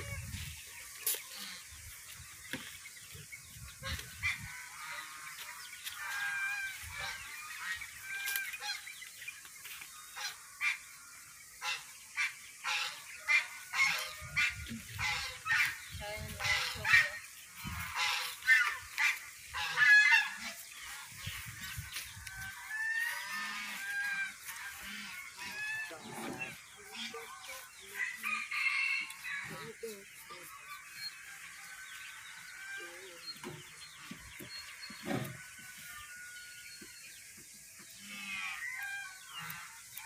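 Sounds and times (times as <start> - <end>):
poultry calling: 0.0 - 40.0.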